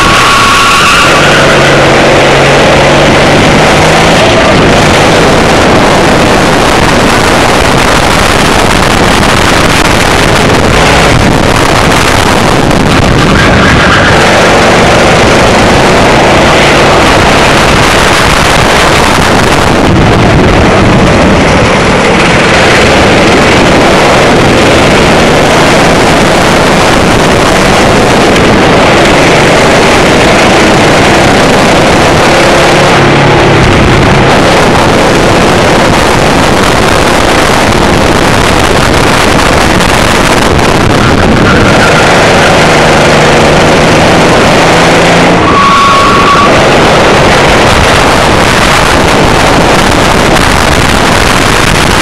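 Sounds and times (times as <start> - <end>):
kart engine revving: 0.0 - 52.0
wind buffeting microphone: 0.0 - 52.0.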